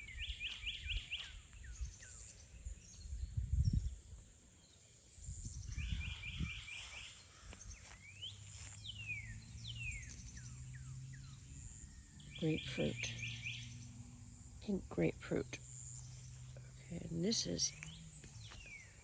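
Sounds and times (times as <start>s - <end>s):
low rumble on microphone: 0.0s - 4.3s, 5.2s - 19.0s
songbirds singing: 0.0s - 19.0s.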